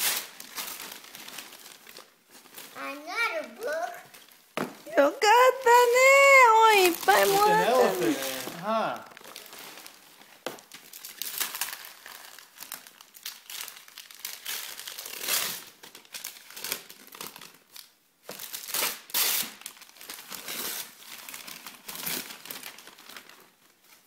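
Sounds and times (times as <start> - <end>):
wrapping paper crumpling and tearing: 0.0 - 4.5, 5.2 - 24.0.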